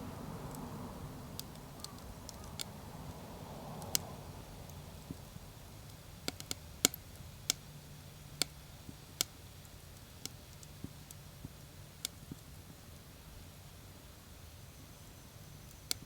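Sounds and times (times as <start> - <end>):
wood fire crackling: 0.0 - 13.2
low steady background noise: 0.0 - 16.0.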